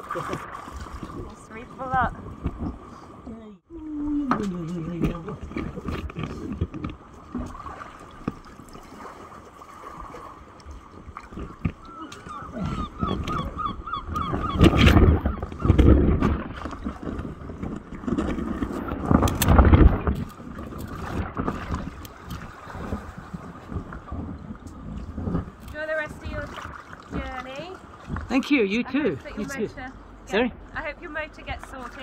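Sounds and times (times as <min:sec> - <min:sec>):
wind rumbling on microphone: 0:00.7 - 0:08.5, 0:09.9 - 0:28.5.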